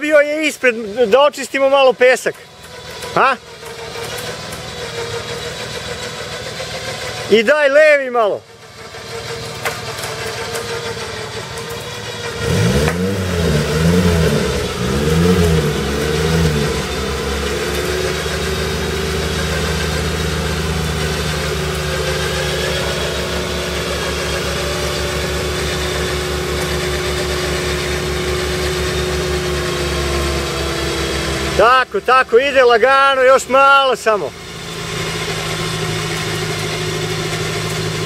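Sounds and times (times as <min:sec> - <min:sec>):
off-road vehicle engine revving: 0:00.0 - 0:38.0.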